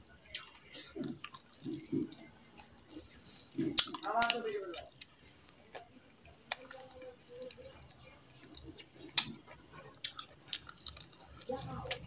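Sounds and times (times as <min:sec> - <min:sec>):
man chewing food: 0:00.0 - 0:12.0.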